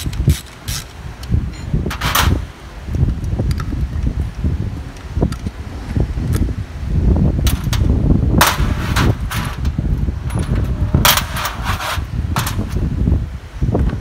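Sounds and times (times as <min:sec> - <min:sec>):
low rumble: 0:01.1 - 0:14.0.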